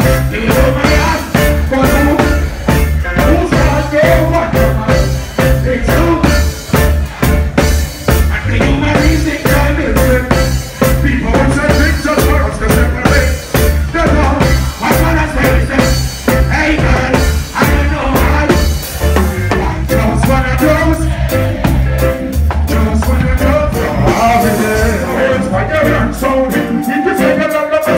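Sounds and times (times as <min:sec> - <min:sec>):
heavy bass line: 0:00.0 - 0:27.9
man singing: 0:00.0 - 0:27.9
reggae band playing: 0:00.0 - 0:27.9.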